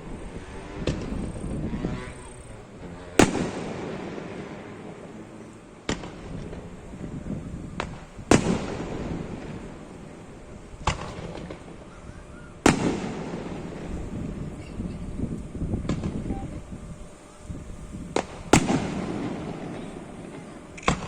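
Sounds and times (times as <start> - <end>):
fireworks booming: 0.0 - 21.0.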